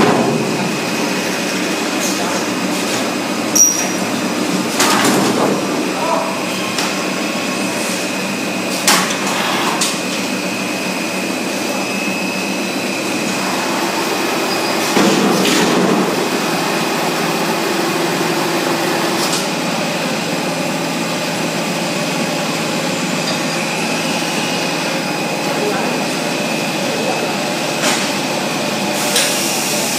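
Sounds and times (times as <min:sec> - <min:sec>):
machine hum: 0:00.0 - 0:29.9.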